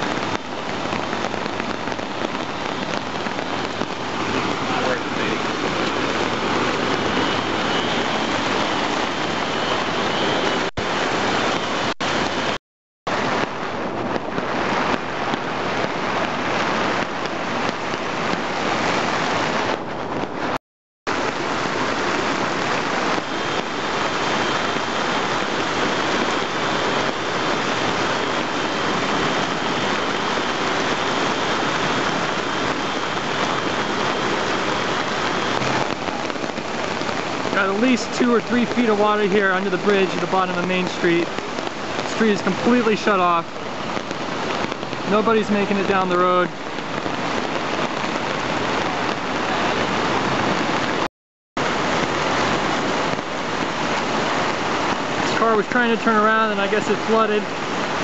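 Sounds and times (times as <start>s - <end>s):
flood water rushing: 0.0s - 58.0s.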